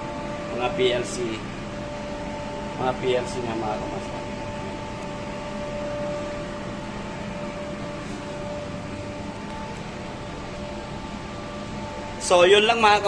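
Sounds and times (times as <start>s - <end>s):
power plant equipment humming: 0.0s - 13.0s.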